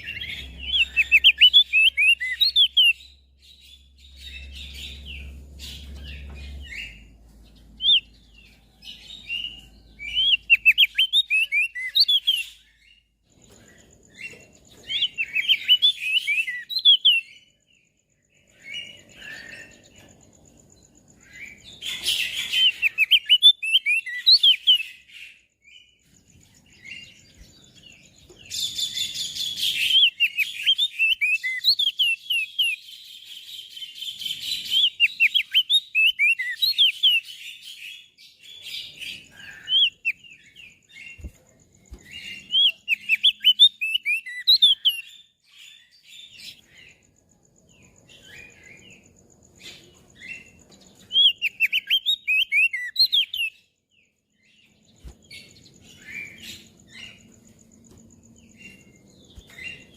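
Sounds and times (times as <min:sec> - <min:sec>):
bird singing rapid chirps: 0:00.0 - 0:59.9.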